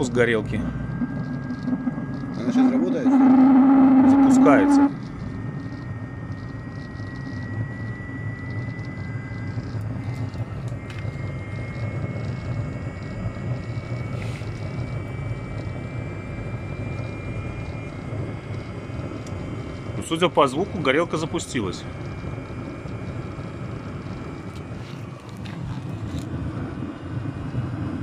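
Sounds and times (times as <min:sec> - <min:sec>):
heater fan whine: 0:00.0 - 0:28.0
low burner rumble: 0:00.0 - 0:28.0.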